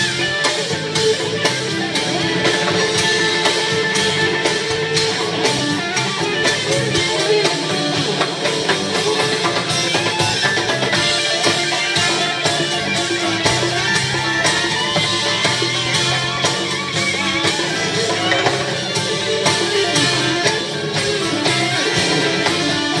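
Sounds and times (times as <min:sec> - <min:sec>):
drum kit and percussion beat: 0:00.0 - 0:23.0
latin jazz band playing: 0:00.0 - 0:23.0.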